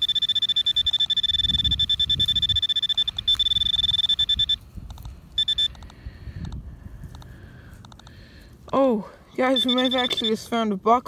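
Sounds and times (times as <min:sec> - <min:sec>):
pinpointer pulsing buzz: 0:00.0 - 0:10.7.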